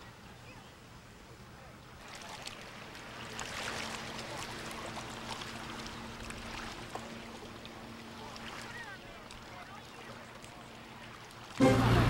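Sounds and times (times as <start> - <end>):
small waves lapping on rocks: 1.5 - 11.9.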